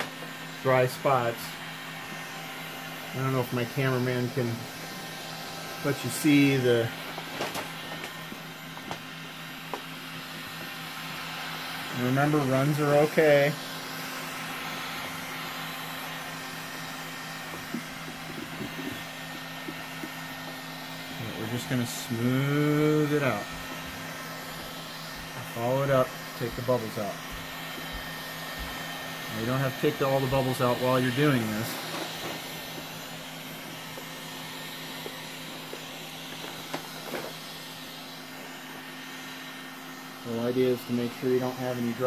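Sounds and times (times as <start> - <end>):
heat gun blowing: 0.0 - 42.0.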